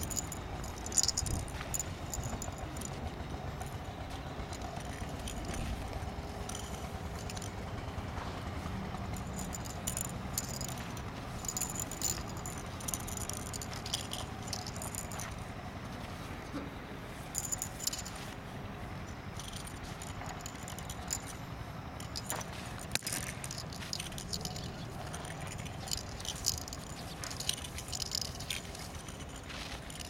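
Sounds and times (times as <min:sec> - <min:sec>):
spear rattling and clicking: 0:00.0 - 0:08.0, 0:08.9 - 0:15.6, 0:17.3 - 0:18.4, 0:19.1 - 0:30.0.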